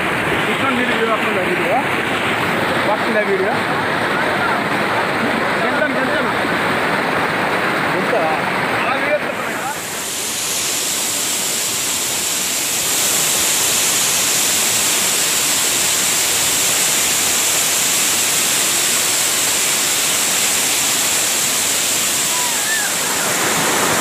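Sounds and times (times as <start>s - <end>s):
waterfall rushing water: 0.0s - 24.0s.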